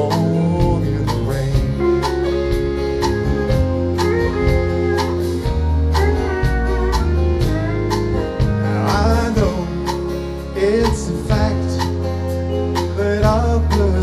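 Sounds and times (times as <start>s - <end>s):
country band playing: 0.0s - 14.0s
guitars: 0.0s - 14.0s
steady drum beat: 0.0s - 14.0s.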